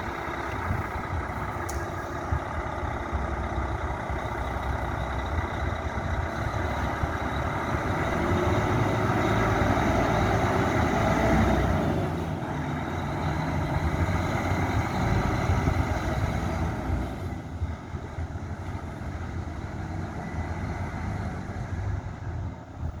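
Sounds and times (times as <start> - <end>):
truck diesel engine rumbling: 0.0 - 23.0.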